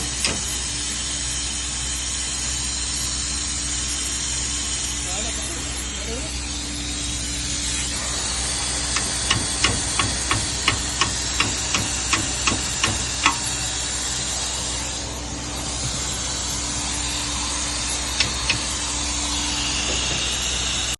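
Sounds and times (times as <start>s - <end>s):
machine hum and hiss: 0.0s - 20.9s.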